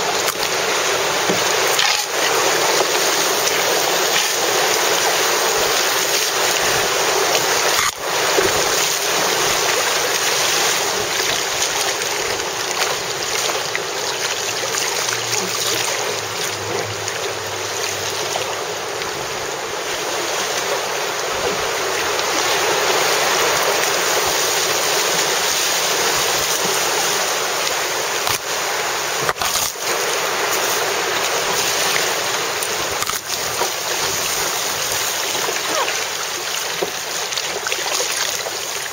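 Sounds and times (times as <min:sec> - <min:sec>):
white water rushing: 0:00.0 - 0:38.9.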